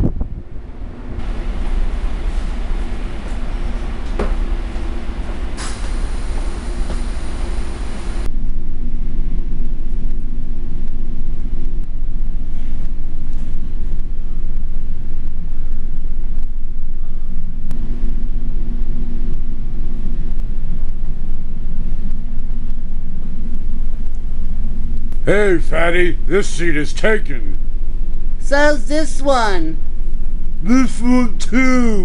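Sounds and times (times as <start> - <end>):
rail car rumble and hum: 0.0 - 32.0.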